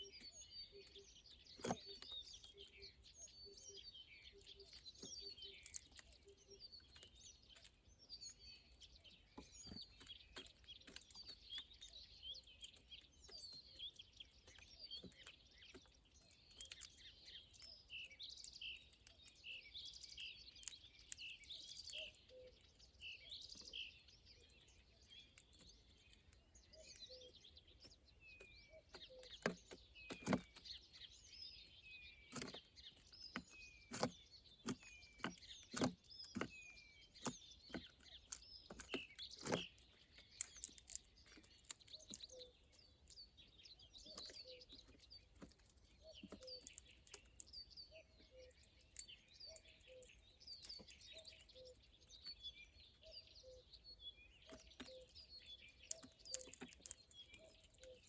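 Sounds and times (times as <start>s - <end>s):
songbirds chirping and singing: 0.0s - 58.0s.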